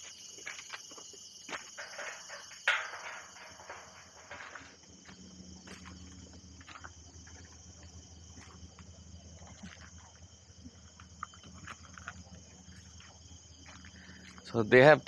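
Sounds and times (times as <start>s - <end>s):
insect trill: 0.0s - 15.0s
low hum: 1.8s - 14.4s.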